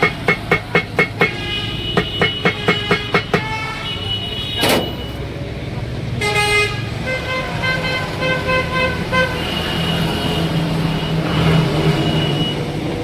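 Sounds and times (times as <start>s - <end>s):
vehicle horn beeping: 0.0s - 5.4s, 6.2s - 12.8s
hum of engines and traffic: 0.0s - 13.0s.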